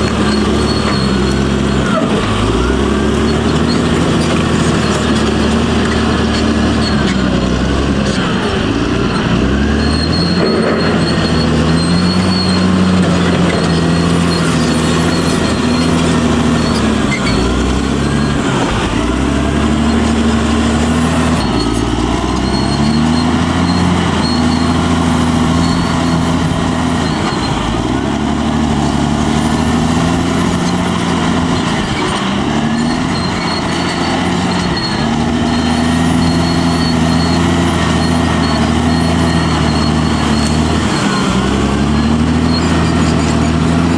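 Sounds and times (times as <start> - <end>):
bulldozer diesel engine: 0.0 - 43.9
steel tracks squealing: 0.0 - 43.9.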